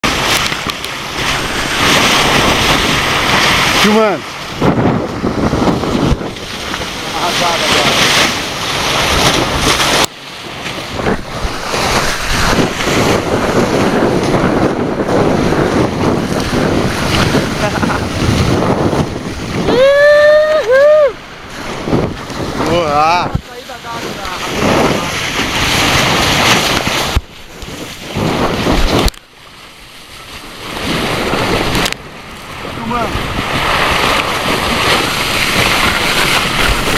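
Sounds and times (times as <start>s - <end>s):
water rushing along hulls: 0.0s - 36.9s
wind buffeting microphone: 0.0s - 36.9s.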